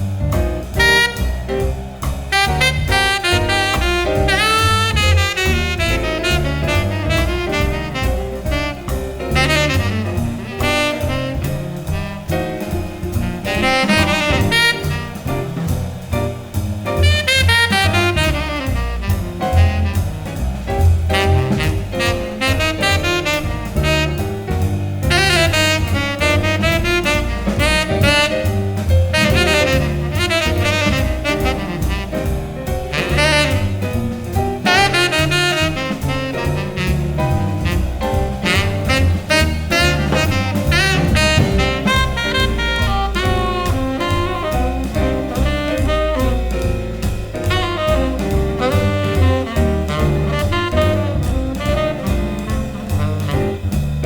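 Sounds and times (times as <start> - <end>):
deep bass line: 0.0 - 54.0
drums: 0.0 - 54.0
saxophone melody: 0.8 - 1.4, 2.3 - 15.4, 17.0 - 20.2, 21.1 - 53.8.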